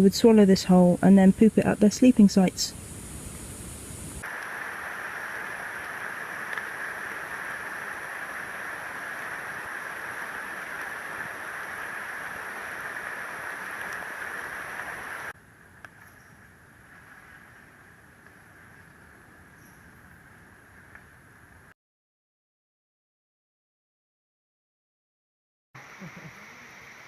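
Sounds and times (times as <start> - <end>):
rainforest hiss: 0.0 - 21.7, 25.8 - 27.0.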